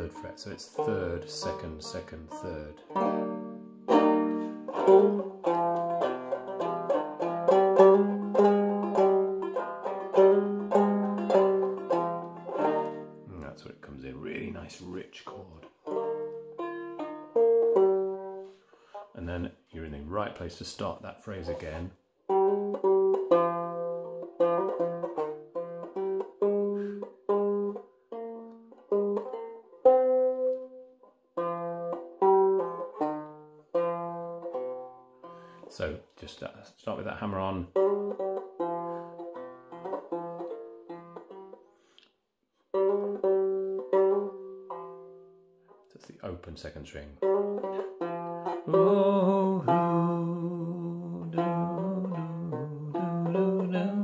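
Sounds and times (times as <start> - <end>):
banjo picking slow melody: 0.0 - 54.0.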